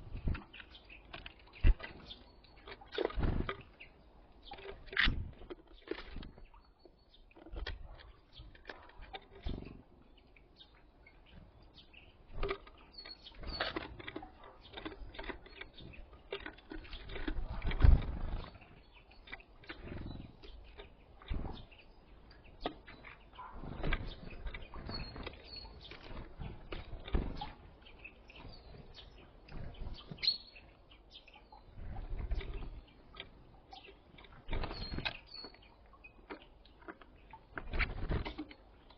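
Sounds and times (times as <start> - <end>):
bird chirps: 0.0 - 38.9
birds pecking at seed: 0.0 - 38.9.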